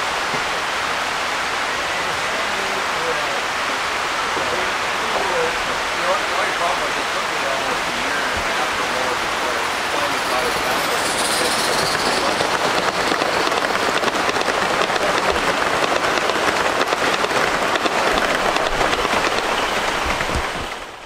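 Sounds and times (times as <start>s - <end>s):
rain pattering on a roof: 0.0s - 10.5s, 11.8s - 21.0s.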